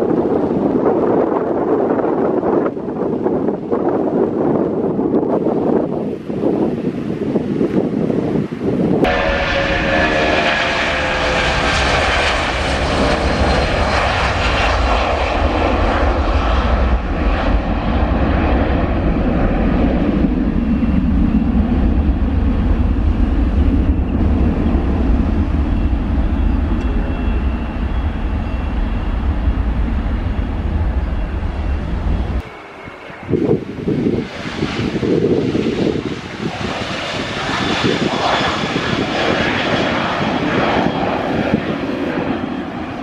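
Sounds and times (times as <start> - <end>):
jet airliner taking off: 0.0 - 43.0.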